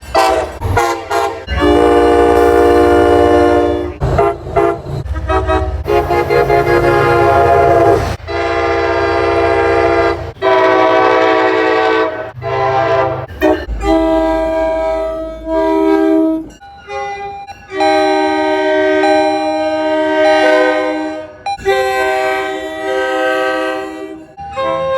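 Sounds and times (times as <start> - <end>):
train horn blasts: 0.0 - 24.9.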